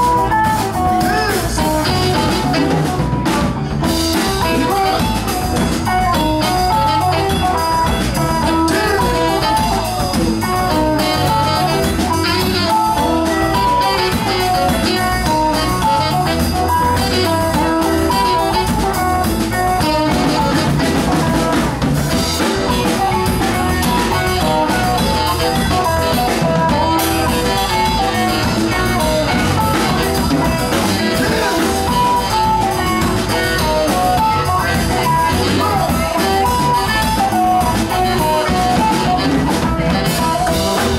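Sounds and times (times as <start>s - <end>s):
bass guitar: 0.0s - 40.9s
drum kit: 0.0s - 40.9s
electric guitar: 0.0s - 40.9s
keyboard: 0.0s - 40.9s
saxophone: 0.0s - 40.9s.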